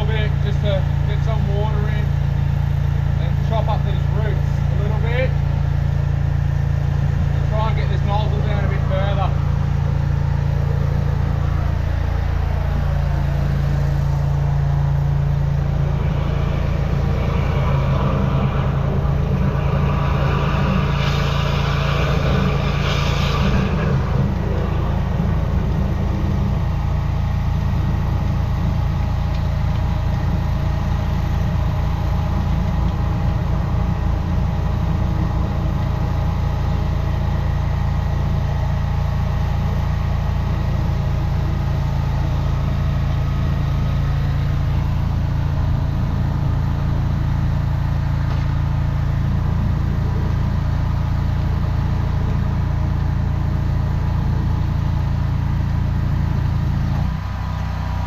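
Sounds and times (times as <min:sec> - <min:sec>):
drain jetter engine running: 0:00.0 - 0:58.0.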